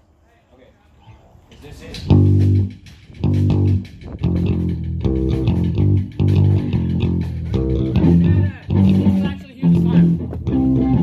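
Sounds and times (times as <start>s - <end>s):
electric guitar picking low notes: 2.0s - 11.0s.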